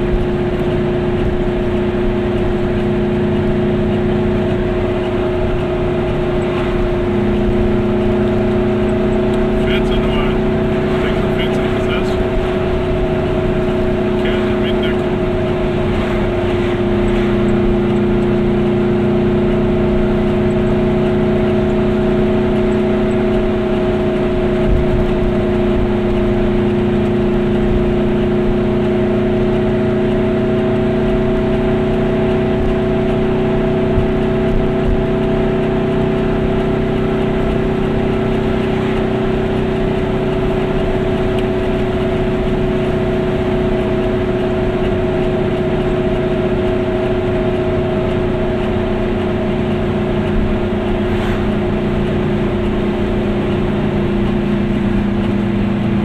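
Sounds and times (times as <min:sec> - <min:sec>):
car engine droning: 0:00.0 - 0:56.0
road noise: 0:00.0 - 0:56.0.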